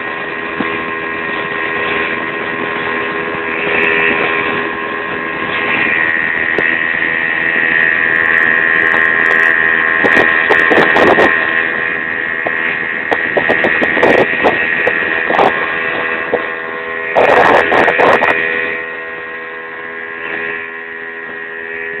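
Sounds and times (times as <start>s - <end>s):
outboard motor drone with whine: 0.0s - 22.0s
rushes of wind and water: 0.0s - 22.0s.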